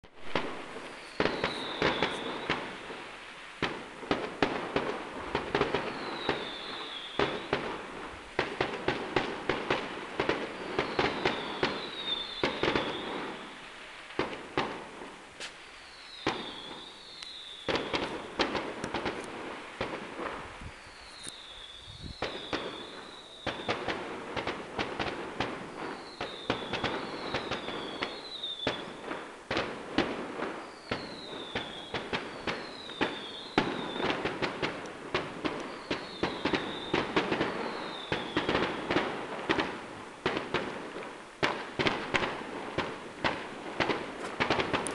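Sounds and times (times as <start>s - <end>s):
fireworks bangs and crackles: 0.0s - 44.9s
falling firework whistles: 0.1s - 40.6s.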